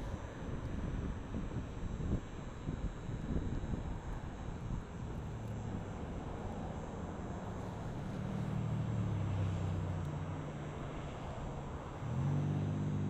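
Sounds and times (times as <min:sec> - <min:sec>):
distant engine drone: 0:00.0 - 0:13.0
wind rumble on microphone: 0:00.0 - 0:13.0.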